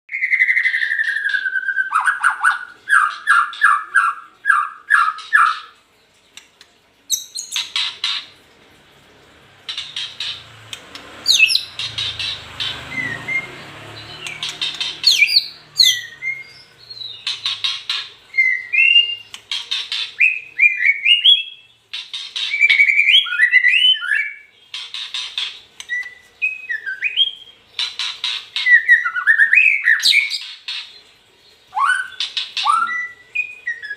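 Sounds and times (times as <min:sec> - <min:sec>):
bird singing varied song: 0:00.1 - 0:05.8, 0:07.1 - 0:08.2, 0:11.2 - 0:33.9.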